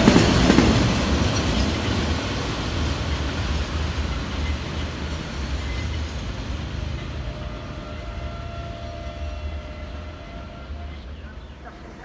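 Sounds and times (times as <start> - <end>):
freight train rumbling: 0.0 - 12.0.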